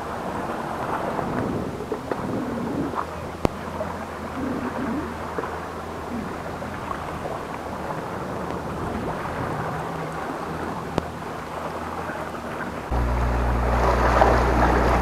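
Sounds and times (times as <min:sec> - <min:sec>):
waves washing against rocks: 0:00.0 - 0:15.0
wind over microphone: 0:00.0 - 0:15.0.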